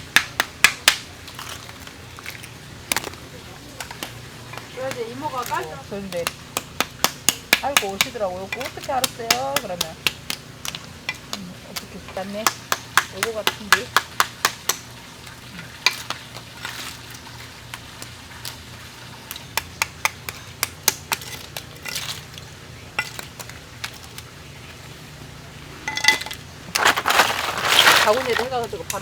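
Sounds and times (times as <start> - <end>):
oyster shells clicking together: 0.0 - 24.8.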